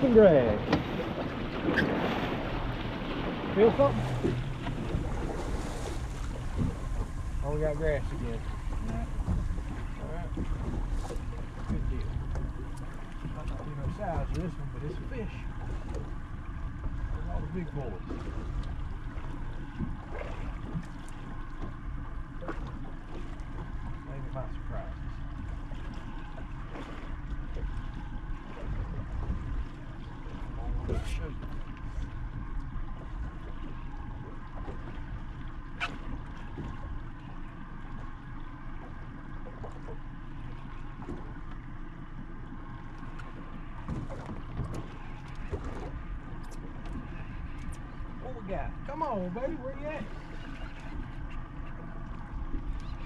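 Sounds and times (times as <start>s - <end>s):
boat motor running: 0.0s - 53.0s.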